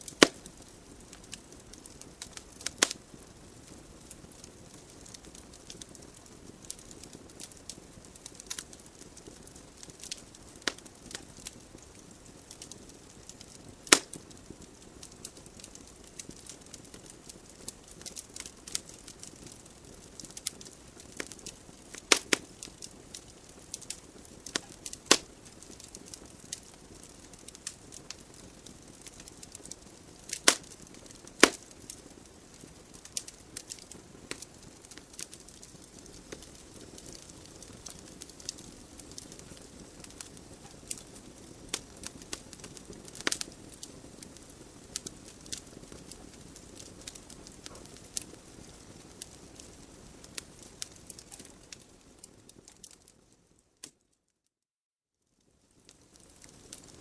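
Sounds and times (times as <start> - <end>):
soft hiss of flame: 0.0 - 54.0, 55.4 - 57.0
logs crackling in a fireplace: 0.0 - 54.1, 55.4 - 57.0.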